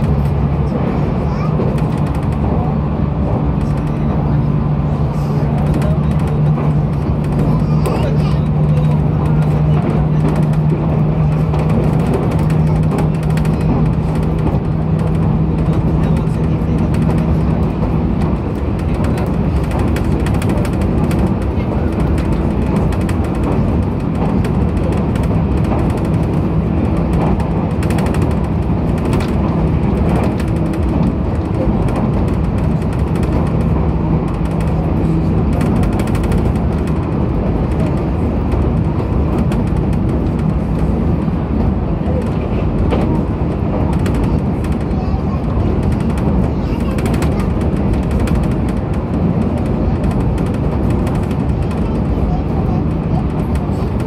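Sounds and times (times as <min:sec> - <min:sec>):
train motor hum: 0:00.0 - 0:54.0
train wheels rumbling on rail: 0:00.0 - 0:54.0.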